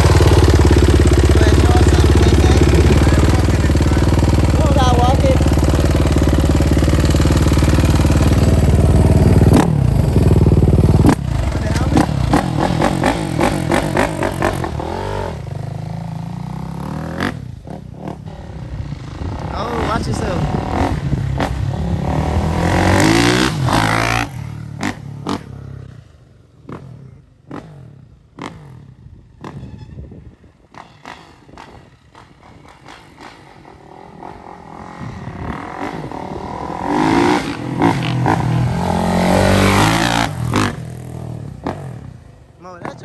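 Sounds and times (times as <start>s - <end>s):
dirt bike engine revving: 0.0s - 26.1s, 32.7s - 43.0s.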